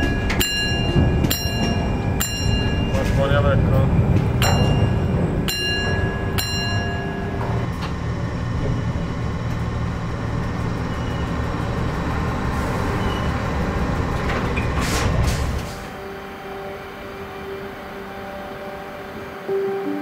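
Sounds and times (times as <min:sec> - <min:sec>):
locomotive rumbling: 0:00.0 - 0:20.0.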